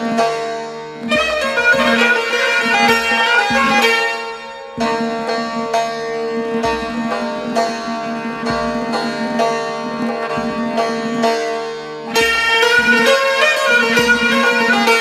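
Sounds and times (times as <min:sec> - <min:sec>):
traditional instrumental music: 0:00.0 - 0:15.0.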